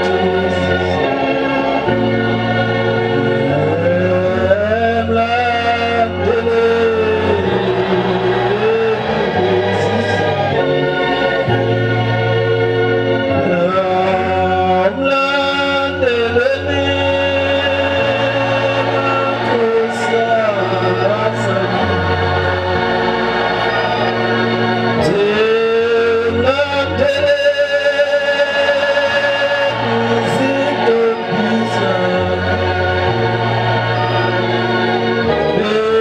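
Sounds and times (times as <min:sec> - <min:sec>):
electronic organ chords: 0:00.0 - 0:36.0
hymn singing: 0:00.0 - 0:36.0.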